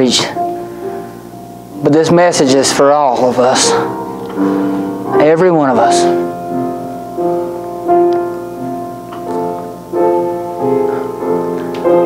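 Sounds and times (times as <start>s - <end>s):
piano playing soft chords: 0.0s - 12.0s.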